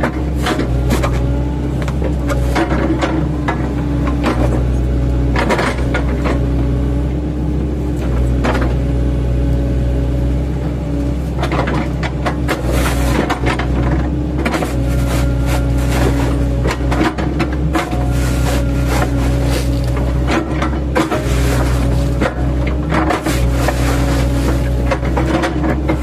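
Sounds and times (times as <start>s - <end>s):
diesel excavator engine running: 0.0s - 26.0s.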